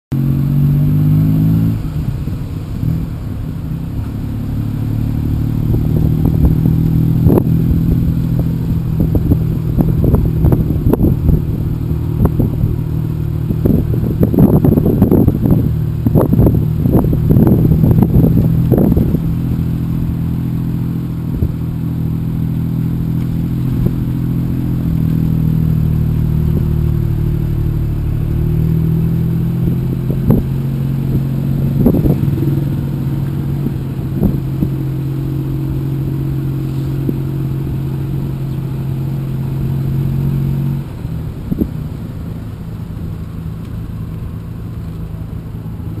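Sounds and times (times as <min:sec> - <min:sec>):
tuk tuk engine running: 0:00.1 - 0:46.0.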